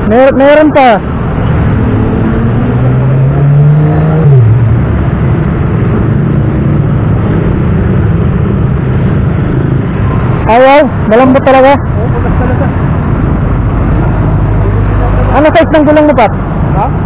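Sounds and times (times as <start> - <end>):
passing vehicles rushing: 0.0 - 17.0.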